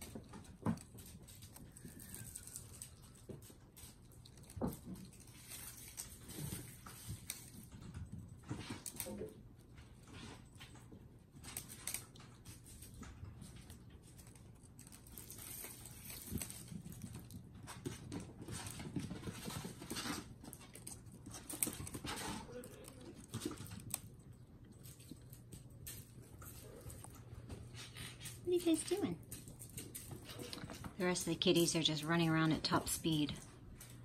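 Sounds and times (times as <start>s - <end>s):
kittens scampering on carpet: 0.0s - 31.8s.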